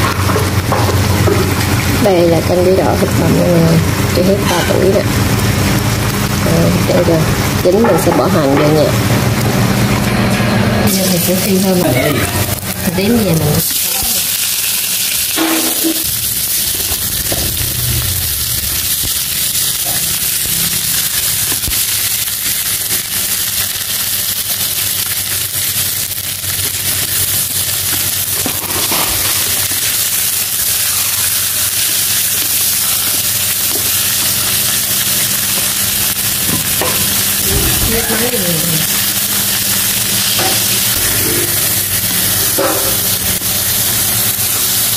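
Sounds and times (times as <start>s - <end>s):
fish sizzling in hot oil: 0.0s - 10.1s, 10.9s - 44.9s.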